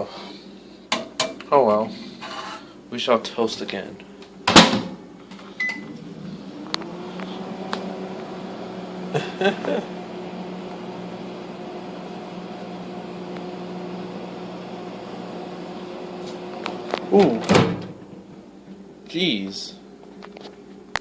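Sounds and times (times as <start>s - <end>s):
microwave oven humming: 4.0s - 21.0s.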